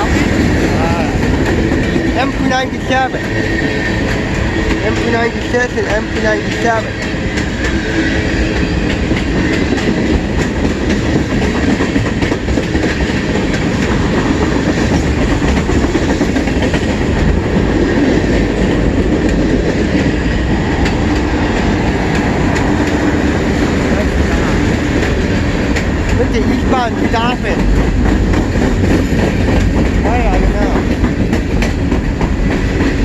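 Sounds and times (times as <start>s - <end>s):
train wheels rumbling on rail: 0.0s - 33.0s
wheels clicking over rail joints: 3.2s - 33.0s.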